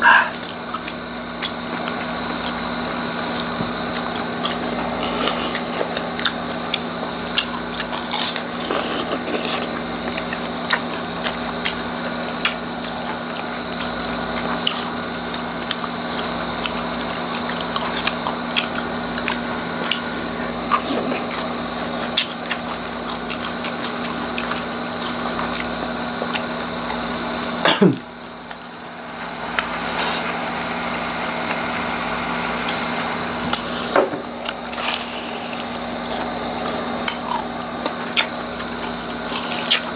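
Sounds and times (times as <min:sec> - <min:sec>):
crunchy food crackling when chewed: 0:00.0 - 0:39.9.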